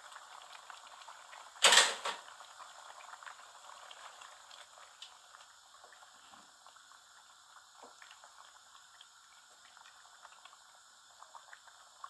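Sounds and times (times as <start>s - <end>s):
curry bubbling in pan: 0.0s - 12.0s.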